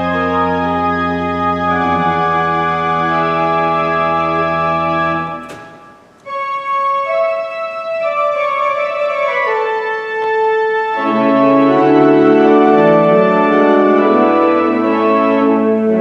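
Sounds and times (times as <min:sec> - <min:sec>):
organ playing slow piece: 0:00.0 - 0:16.0.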